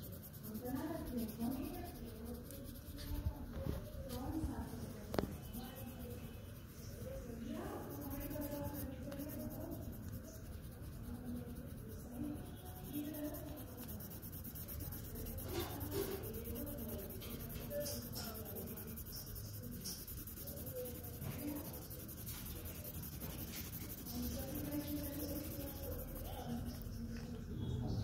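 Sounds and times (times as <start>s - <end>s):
pencil scratching on paper: 0.0s - 27.4s.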